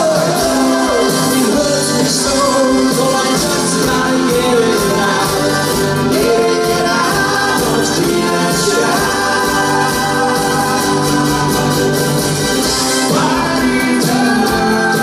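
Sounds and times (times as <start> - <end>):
man singing into microphone: 0.0 - 11.9, 12.6 - 15.0
live pop band playing: 0.0 - 15.0.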